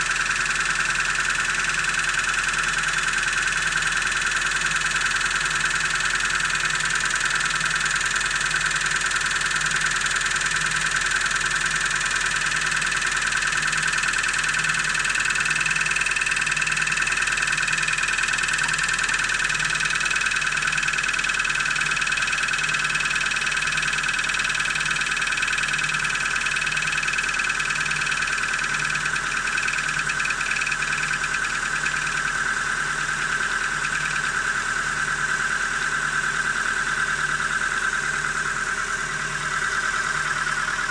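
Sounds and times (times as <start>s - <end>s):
car engine running: 0.0s - 40.9s
rapid engine knocking: 0.0s - 40.9s.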